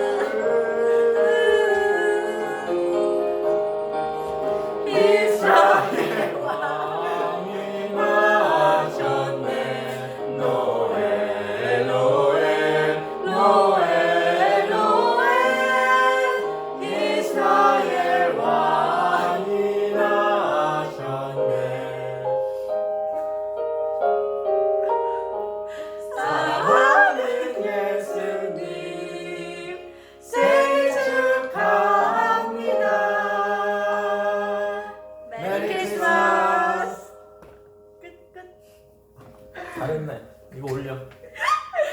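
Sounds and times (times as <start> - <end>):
group of people singing: 0.0 - 22.7, 25.8 - 37.5.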